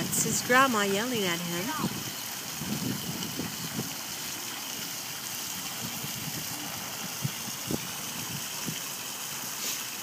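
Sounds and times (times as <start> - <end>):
water fountain splashing: 0.0 - 10.0.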